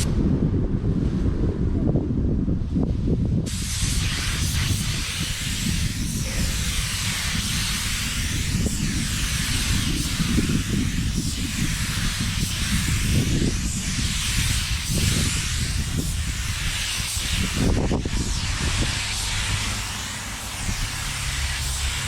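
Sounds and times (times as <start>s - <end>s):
wind rumbling on microphone: 0.0s - 22.0s
paint spray gun hissing: 3.5s - 22.0s.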